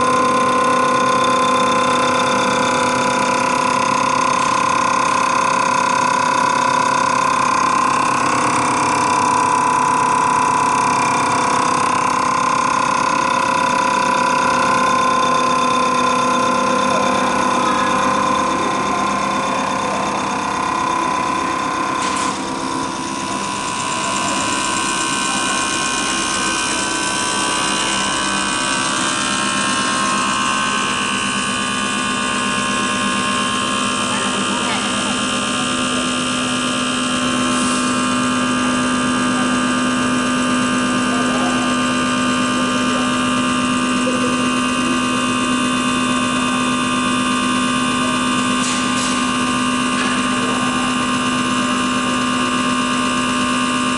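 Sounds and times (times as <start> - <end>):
machine drone: 0.0 - 53.9
pump humming with steady whine: 0.0 - 53.9
rapid injector ticking: 0.0 - 53.9.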